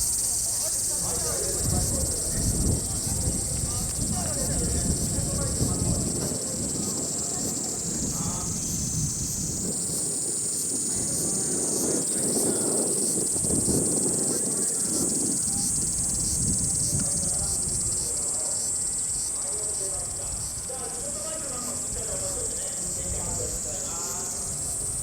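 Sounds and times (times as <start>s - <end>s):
gusty wind rumbling: 0.0s - 25.0s
insects droning: 0.0s - 25.0s.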